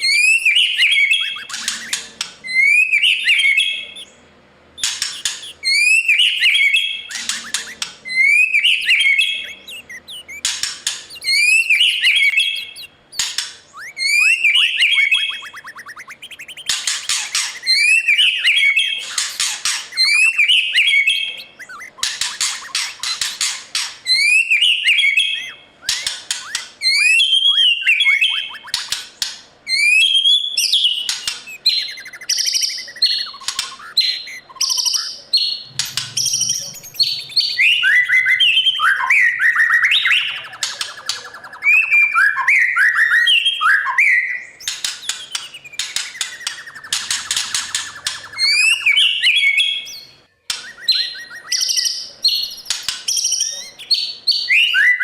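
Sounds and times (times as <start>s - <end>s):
bird singing varied song: 0.0s - 55.0s.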